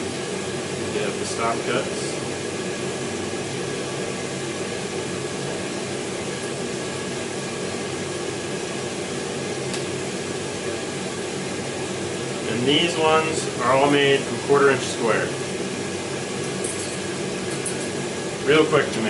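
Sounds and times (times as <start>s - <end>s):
fan-like blower rushing: 0.0s - 19.0s.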